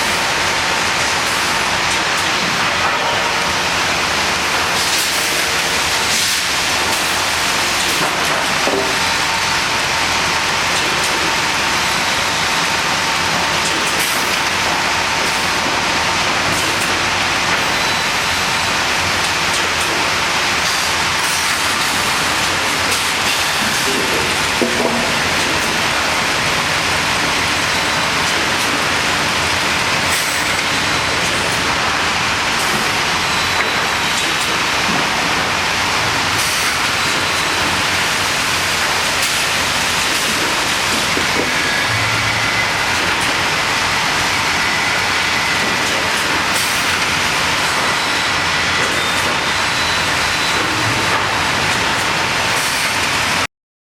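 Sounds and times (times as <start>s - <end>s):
sawmill machine rushing noise: 0.0s - 53.5s.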